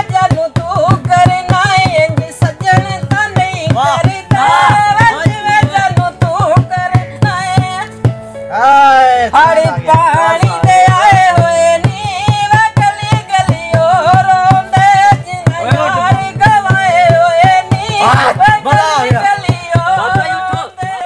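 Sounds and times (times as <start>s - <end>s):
person singing: 0.0s - 7.5s, 8.5s - 21.0s
hand drum beat: 0.0s - 8.2s, 9.4s - 21.0s.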